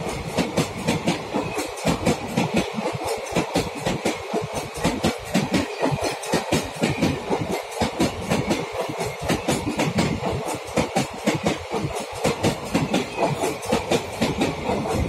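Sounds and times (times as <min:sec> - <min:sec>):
steady rushing noise: 0:00.0 - 0:15.0
train wheels clattering over rail joints: 0:00.0 - 0:15.0.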